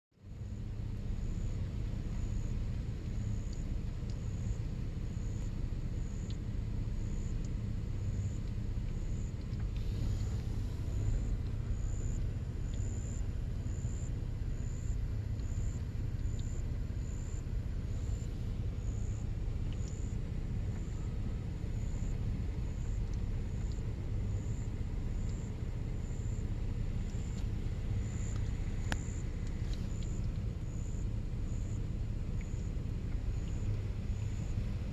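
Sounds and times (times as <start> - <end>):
car engine running: 0.2 - 34.9.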